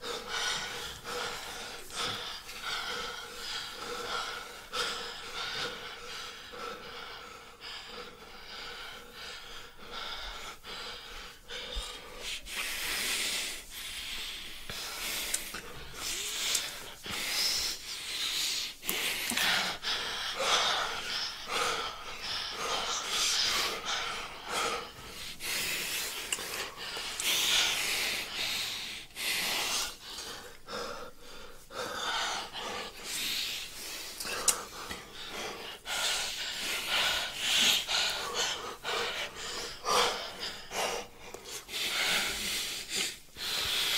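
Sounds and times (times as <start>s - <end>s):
noisy human breathing: 0.0s - 43.9s.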